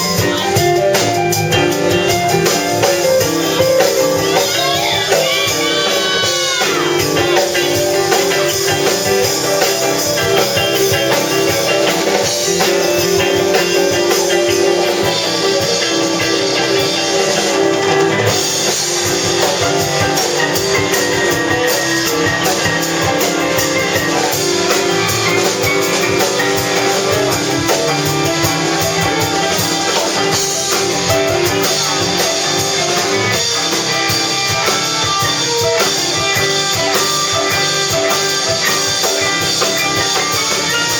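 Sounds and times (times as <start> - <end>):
drum kit beat: 0.0 - 40.9
electric guitar playing: 0.0 - 40.9.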